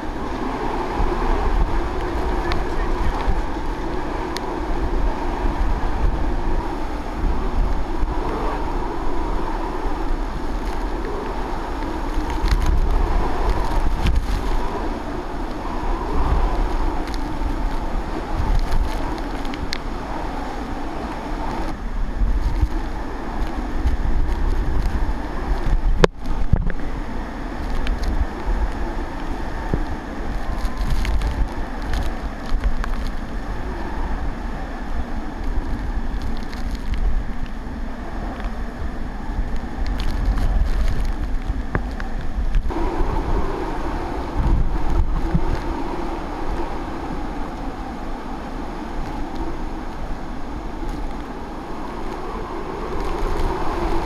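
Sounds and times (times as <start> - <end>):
driving rain: 0.0 - 54.0
wind buffeting on microphone: 0.0 - 54.0
wind gusting: 0.0 - 54.0.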